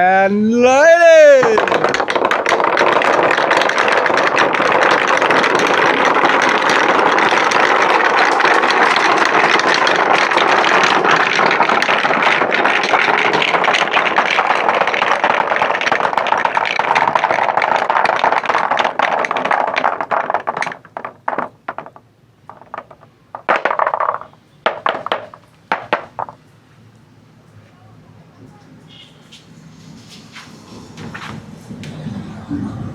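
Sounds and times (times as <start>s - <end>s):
marbles rolling down wooden tracks: 0.0s - 26.4s, 29.8s - 32.2s.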